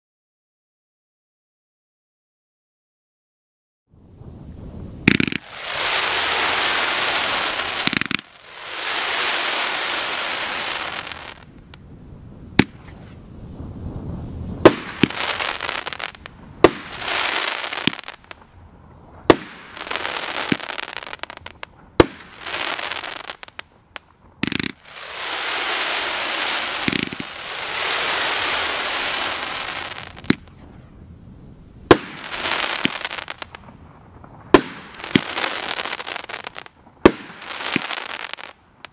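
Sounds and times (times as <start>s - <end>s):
fireworks rushing noise: 4.0s - 38.9s
firework bangs: 4.2s - 38.9s.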